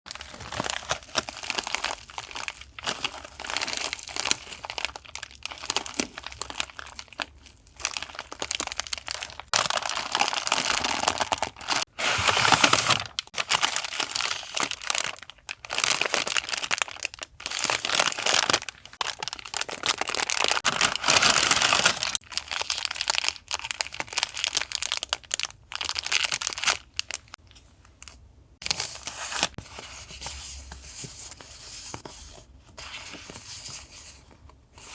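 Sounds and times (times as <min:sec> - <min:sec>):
paper and packaging crinkling: 0:00.1 - 0:32.1.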